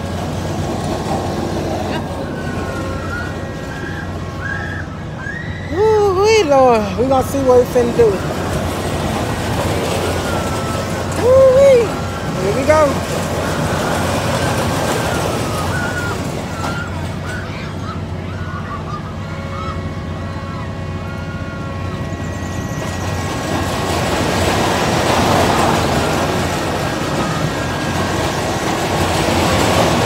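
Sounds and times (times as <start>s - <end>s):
fairground ride mechanical hum: 0.0s - 30.0s.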